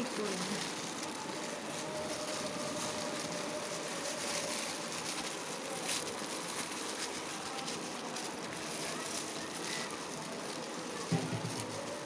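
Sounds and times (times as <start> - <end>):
plastic bag rustling and crinkling: 0.0 - 12.0
steady hiss: 0.0 - 12.0.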